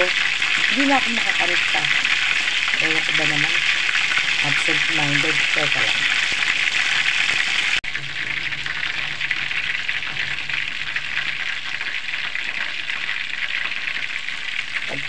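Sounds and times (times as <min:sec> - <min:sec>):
chicken deep-frying in hot oil: 0:00.0 - 0:15.0.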